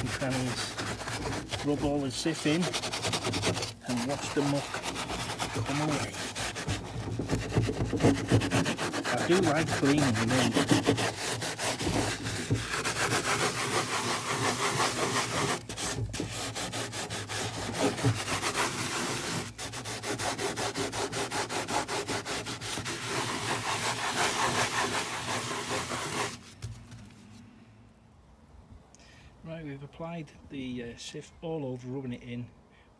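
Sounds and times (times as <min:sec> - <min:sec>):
sponge scrubbing plastic: 0:00.0 - 0:26.8.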